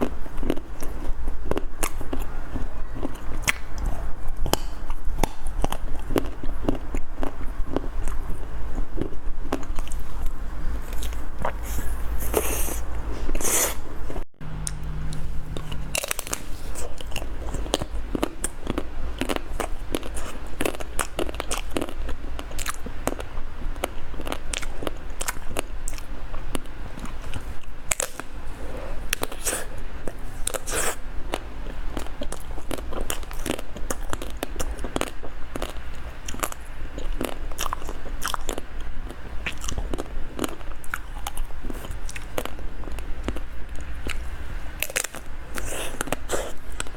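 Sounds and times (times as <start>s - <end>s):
biting and chewing ice cream bar: 0.0s - 46.9s
steady low hum: 0.0s - 46.9s.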